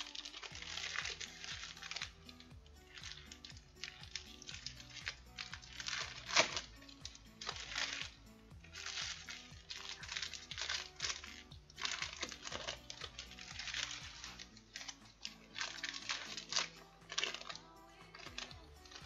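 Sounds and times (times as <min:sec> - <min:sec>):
background music with steady beat: 0:00.0 - 0:19.0
foil wrappers crinkling: 0:00.0 - 0:19.0.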